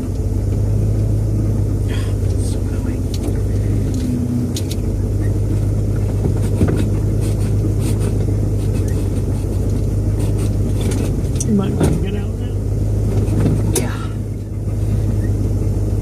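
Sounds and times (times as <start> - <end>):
car engine low hum: 0.0 - 16.0.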